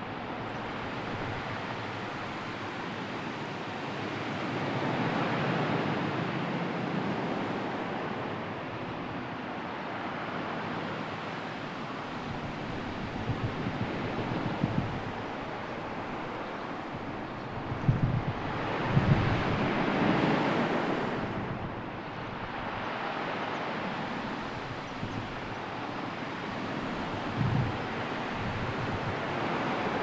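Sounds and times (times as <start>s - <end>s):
sea surf washing: 0.0s - 30.0s.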